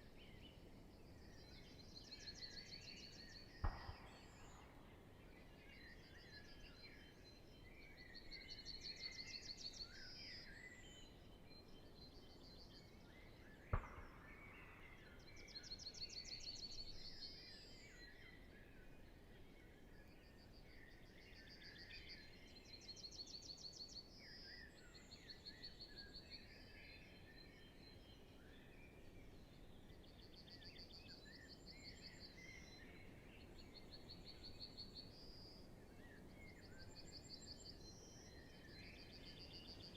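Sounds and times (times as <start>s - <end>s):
songbirds dawn chorus: 0.0s - 39.9s.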